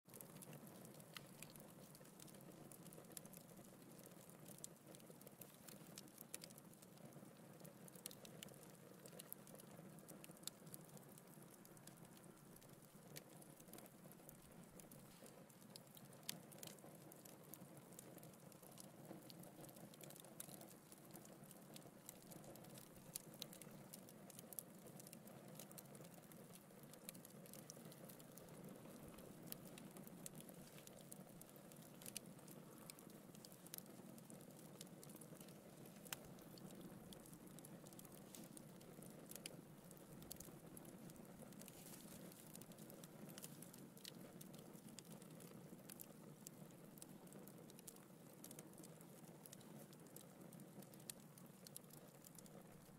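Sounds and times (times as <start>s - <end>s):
fire crackling and popping: 0.1s - 52.9s.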